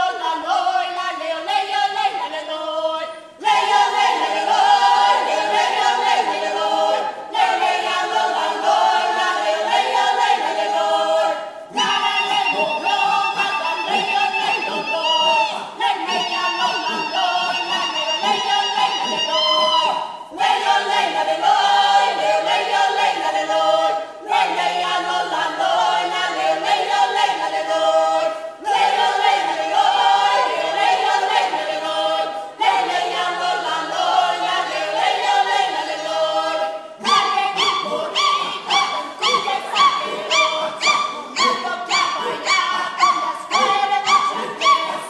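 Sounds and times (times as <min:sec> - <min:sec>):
a cappella choir singing: 0:00.0 - 0:45.0.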